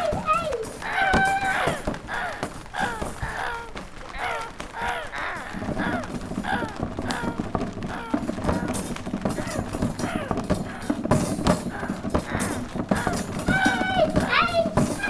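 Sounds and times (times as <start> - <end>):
crow cawing imitation: 0.0 - 11.0, 11.7 - 15.0.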